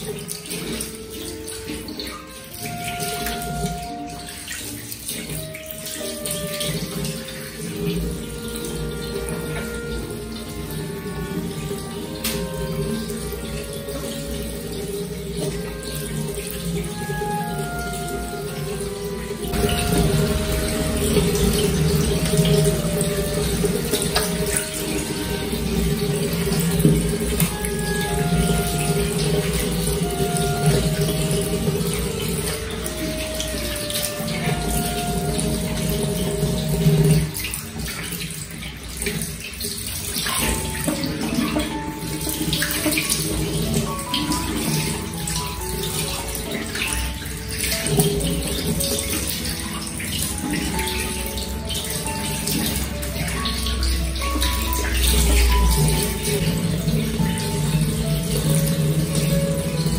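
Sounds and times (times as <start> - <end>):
music of held notes: 0.0 - 59.9
tap water running into sink: 0.0 - 59.9.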